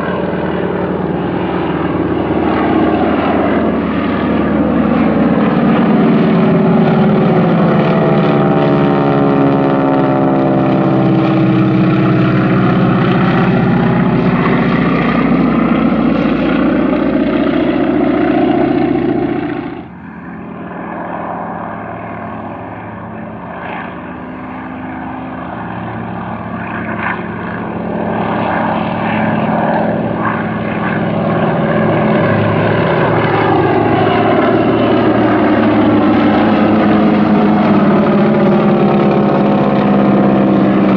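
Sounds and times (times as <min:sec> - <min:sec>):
propeller planes droning overhead: 0:00.0 - 0:40.9.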